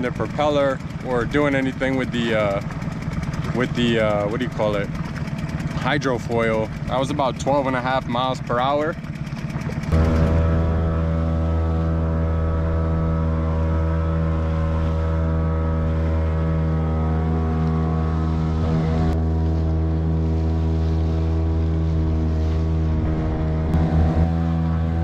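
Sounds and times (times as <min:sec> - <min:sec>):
outboard motor running: 0:00.0 - 0:25.0
water splashing against hull: 0:00.0 - 0:25.0.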